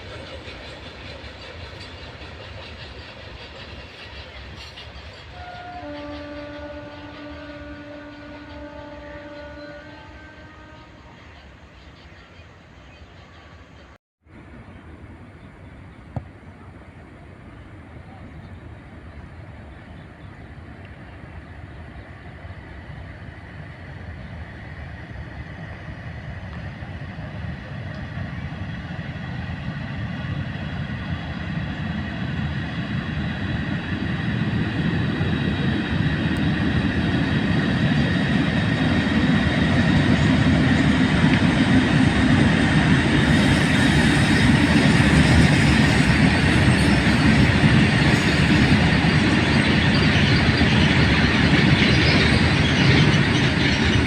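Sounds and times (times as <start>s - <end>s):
passing train: 0.0s - 54.0s.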